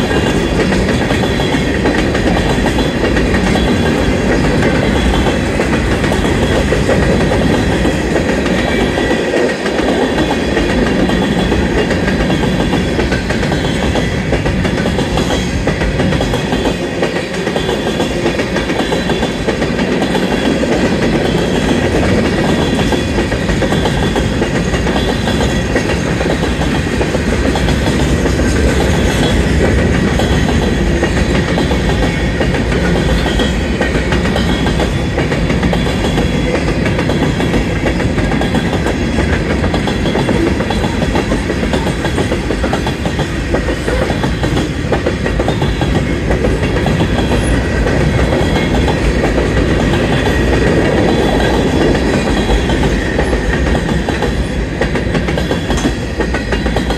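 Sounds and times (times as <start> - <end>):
freight train rumble: 0.0 - 56.9
train wheels clacking over joints: 0.0 - 56.9.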